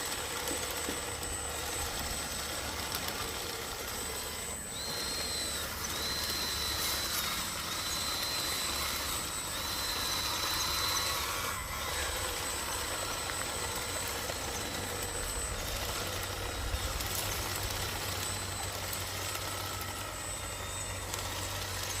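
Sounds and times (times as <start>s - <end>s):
faint high whine: 0.0s - 22.0s
toy trucks engine rumble: 0.0s - 22.0s.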